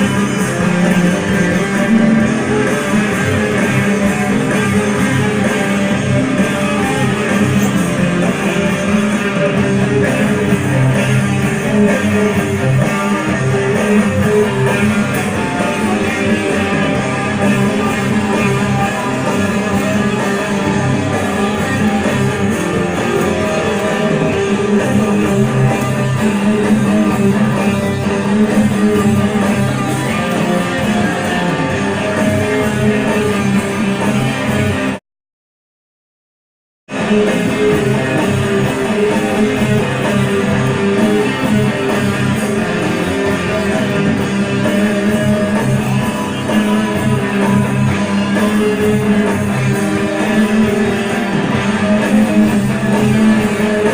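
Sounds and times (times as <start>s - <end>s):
guitar music: 0.0s - 35.0s, 36.9s - 53.9s.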